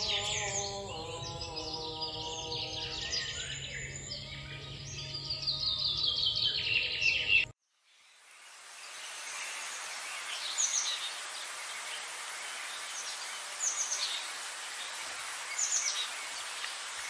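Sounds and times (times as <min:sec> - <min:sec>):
songbird chirping: 0:00.0 - 0:17.0
steady outdoor hiss: 0:00.0 - 0:17.0.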